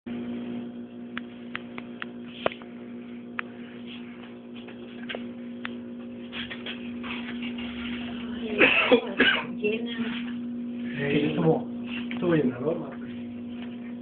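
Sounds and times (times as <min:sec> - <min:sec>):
electrical hum: 0:00.1 - 0:14.0.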